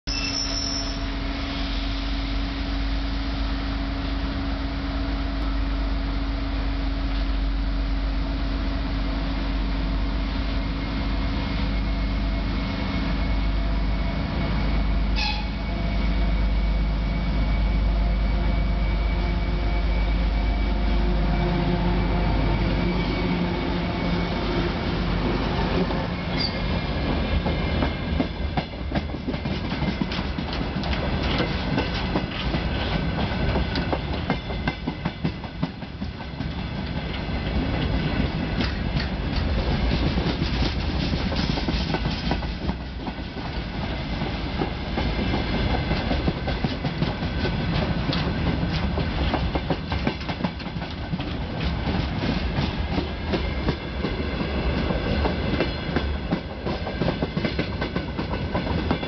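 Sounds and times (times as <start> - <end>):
diesel locomotive engine hum: 0.1 - 59.0.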